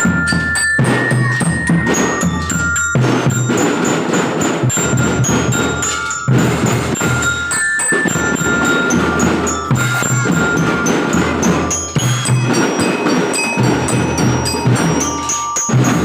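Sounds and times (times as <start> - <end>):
bell lyre melody: 0.0 - 16.0
steady marching drums: 0.0 - 16.0.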